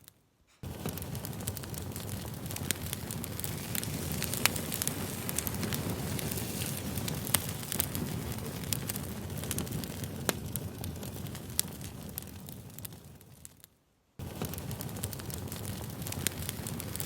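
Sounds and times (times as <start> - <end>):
fire crackling and popping: 0.0 - 17.0
campfire low rush: 0.6 - 17.0.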